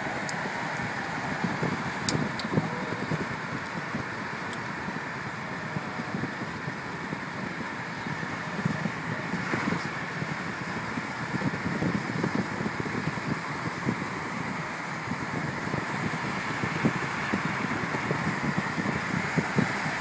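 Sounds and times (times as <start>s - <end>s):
car road noise: 0.0s - 20.0s
wind buffeting microphone: 0.0s - 20.0s.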